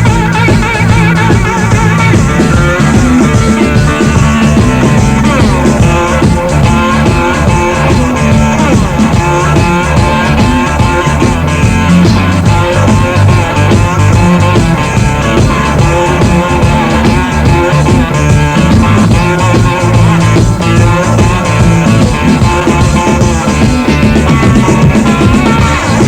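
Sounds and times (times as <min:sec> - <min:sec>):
rock and roll record playing: 0:00.0 - 0:26.0.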